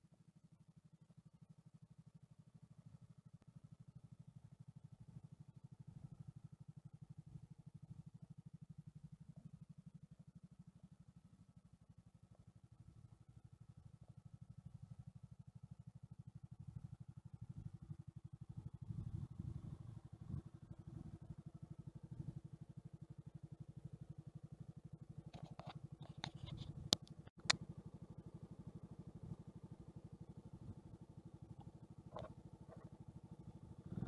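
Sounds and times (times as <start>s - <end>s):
moped engine idling: 0.0s - 34.0s.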